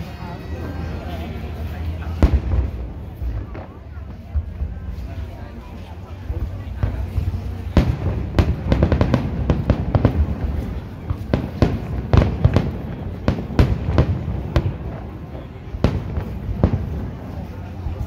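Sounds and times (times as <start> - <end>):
fireworks bangs and crackles: 0.0 - 18.0
steady low rumble: 0.0 - 18.0.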